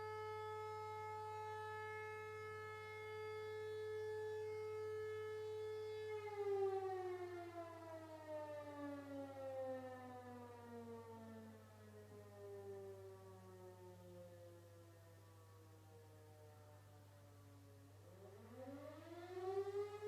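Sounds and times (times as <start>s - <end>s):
civil defence siren: 0.0s - 20.0s.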